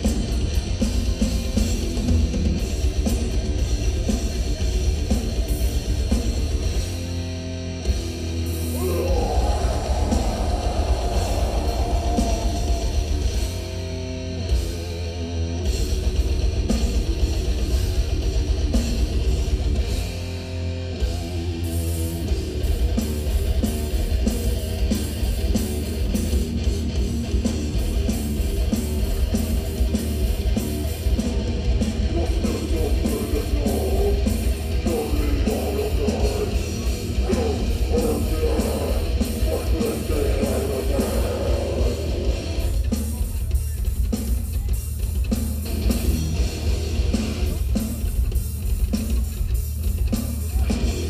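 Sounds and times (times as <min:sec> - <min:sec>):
fast dense drumming: 0:00.0 - 0:07.2, 0:07.8 - 0:15.0, 0:22.1 - 0:51.0
distorted electric guitars: 0:00.0 - 0:51.0.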